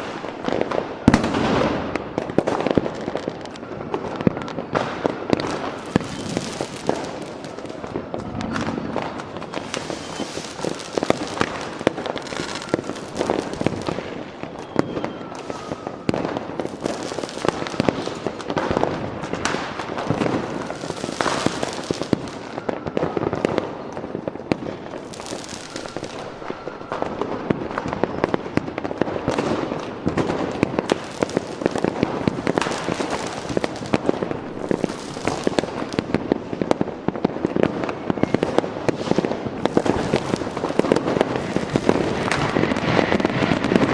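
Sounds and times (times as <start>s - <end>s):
fireworks crackling and bursting: 0.0s - 43.9s.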